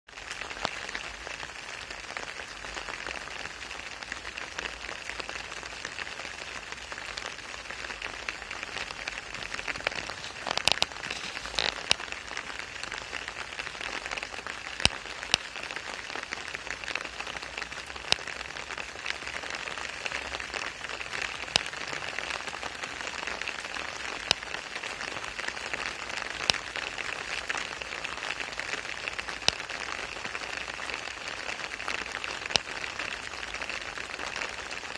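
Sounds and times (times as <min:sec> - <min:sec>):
rain on wet asphalt: 0:00.1 - 0:34.9.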